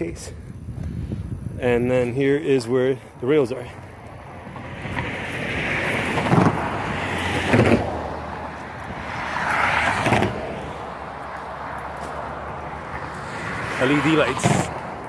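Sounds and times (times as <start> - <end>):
vehicles passing on highway: 0.0 - 15.0.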